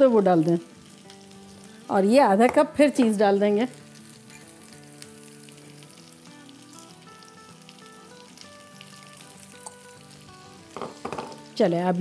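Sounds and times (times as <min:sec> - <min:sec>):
food sizzling in frying pan: 0:00.0 - 0:12.0
soft background music: 0:00.0 - 0:12.0.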